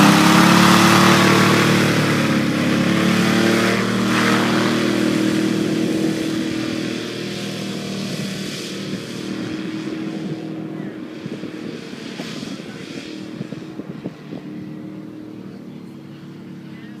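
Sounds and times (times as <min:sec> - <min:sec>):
hovercraft engine and fan running: 0:00.0 - 0:17.0.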